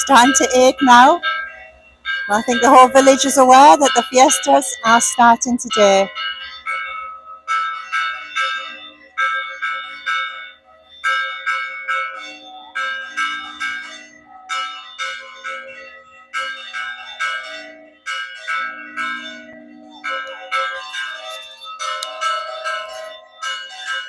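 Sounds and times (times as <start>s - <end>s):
church bells pealing: 0.0s - 24.0s
low bell tone ringing: 0.0s - 24.0s.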